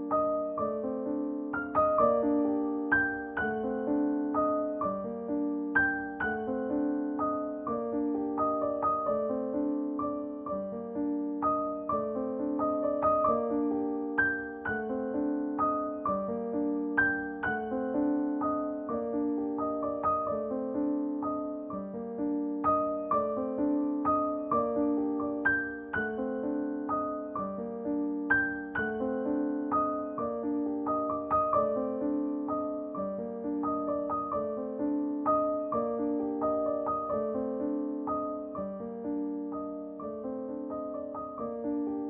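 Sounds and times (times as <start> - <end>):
gentle piano music: 0.0 - 42.0.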